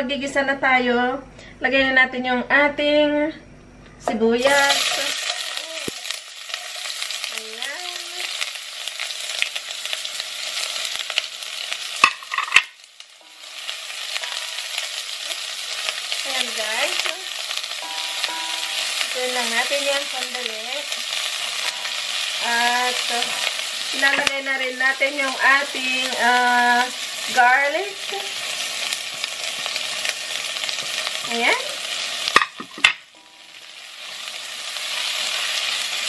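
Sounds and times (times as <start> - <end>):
onions sizzling in hot oil: 4.4 - 36.0.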